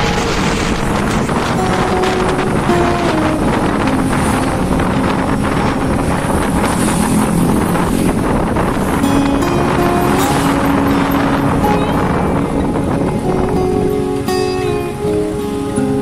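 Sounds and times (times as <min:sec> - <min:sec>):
car road noise: 0:00.0 - 0:16.0
faint held notes: 0:00.0 - 0:16.0
wind buffeting microphone: 0:00.0 - 0:16.0.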